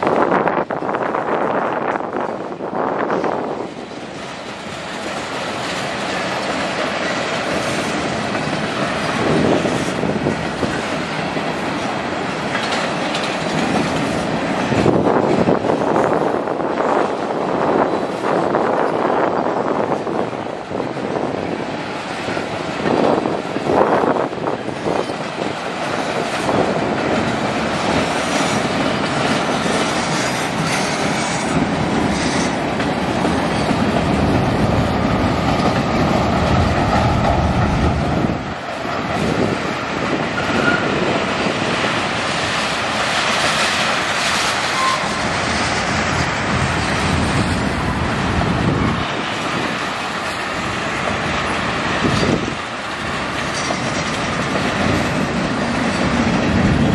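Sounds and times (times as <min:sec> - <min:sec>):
train wheels on rail: 0:00.0 - 0:56.9.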